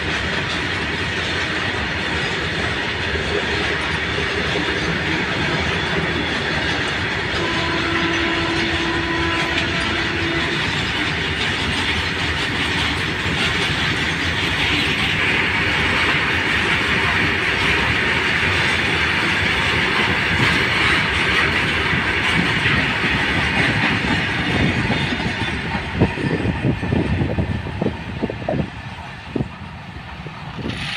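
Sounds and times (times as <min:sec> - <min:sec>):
clatter over rail joints: 0:00.0 - 0:30.9
freight train wheels rushing: 0:00.0 - 0:30.9.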